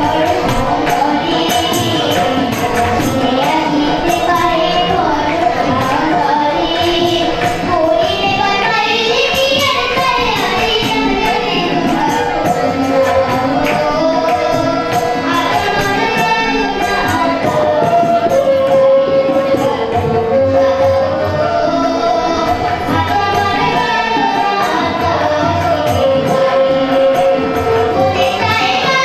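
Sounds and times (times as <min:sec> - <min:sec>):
girl singing into a microphone: 0:00.0 - 0:29.0
harmonium held notes: 0:00.0 - 0:29.0
light percussion: 0:00.0 - 0:29.0.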